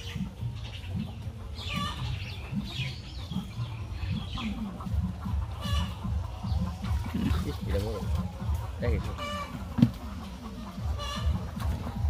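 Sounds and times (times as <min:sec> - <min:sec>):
birds calling: 0:00.0 - 0:12.0
chickens clucking: 0:00.0 - 0:12.0.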